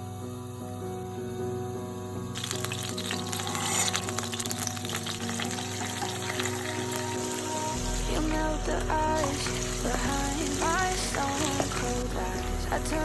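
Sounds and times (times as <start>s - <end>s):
background music: 0.0s - 13.0s
food sizzling in a hot pan: 2.4s - 13.0s.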